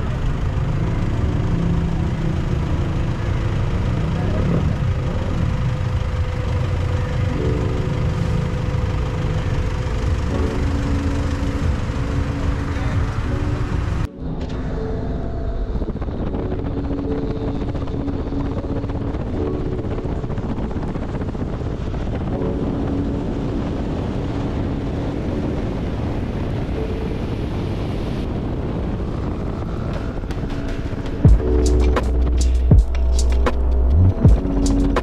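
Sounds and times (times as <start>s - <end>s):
engine hum: 0.0s - 35.0s
road and wind noise: 0.0s - 35.0s.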